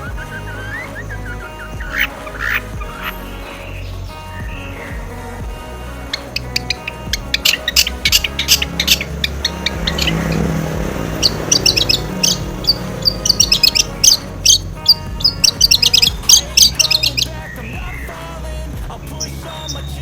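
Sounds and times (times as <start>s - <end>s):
bird singing sharp high chirps: 0.0s - 5.3s, 6.1s - 18.3s, 19.2s - 20.0s
background music: 0.0s - 20.0s.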